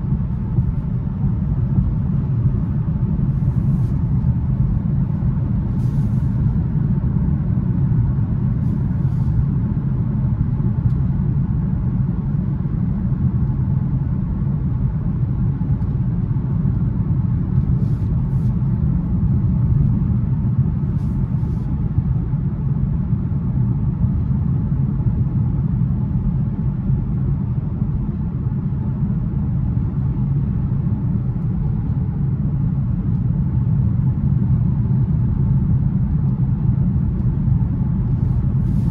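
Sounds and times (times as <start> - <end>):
road and tyre noise in car: 0.0 - 38.9.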